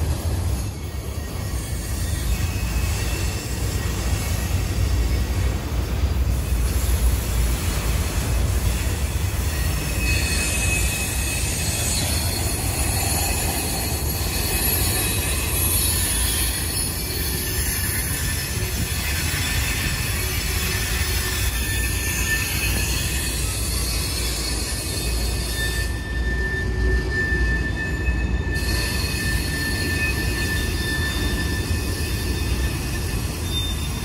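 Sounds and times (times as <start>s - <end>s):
high wheel squeal: 0.0s - 5.6s, 6.4s - 34.0s
train wheels rumbling on rails: 0.0s - 34.0s.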